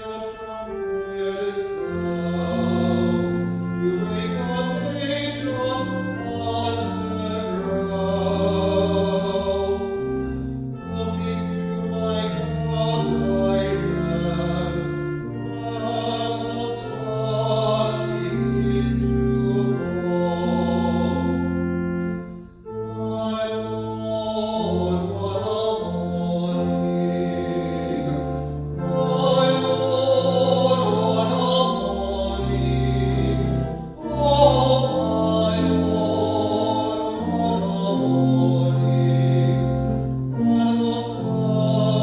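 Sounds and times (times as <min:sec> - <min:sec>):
choir singing: 0:00.0 - 0:42.0
chordal accompaniment: 0:00.0 - 0:42.0.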